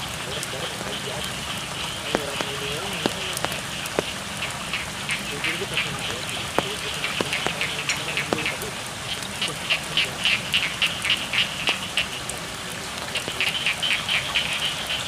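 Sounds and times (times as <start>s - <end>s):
frogs croaking: 0.0s - 15.0s
steady rain: 0.0s - 15.0s
water drips: 0.0s - 15.0s.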